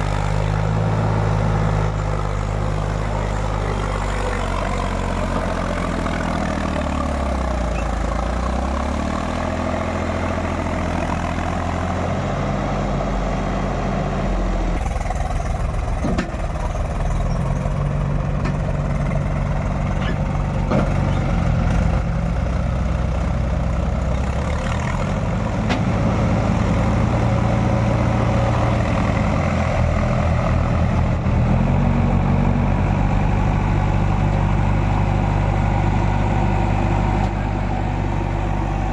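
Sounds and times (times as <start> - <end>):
diesel engines revving: 0.0 - 38.9.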